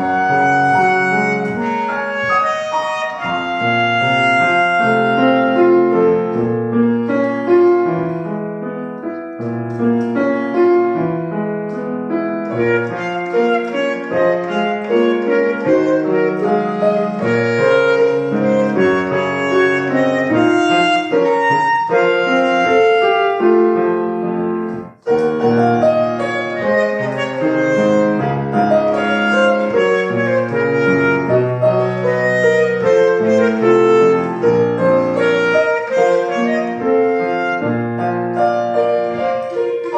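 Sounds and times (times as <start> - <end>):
melody instrument: 0.0 - 11.0, 11.7 - 39.9
piano accompaniment: 0.0 - 39.9.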